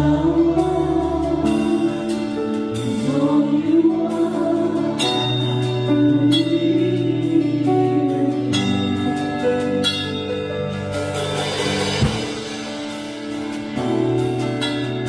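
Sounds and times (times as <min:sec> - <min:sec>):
acoustic guitar: 0:00.0 - 0:15.0
keyboard chords: 0:00.0 - 0:15.0.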